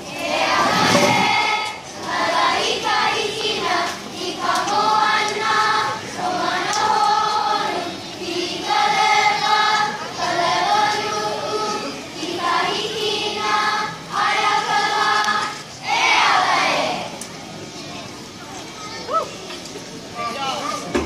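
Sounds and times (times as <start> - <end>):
children singing together: 0.0 - 17.3.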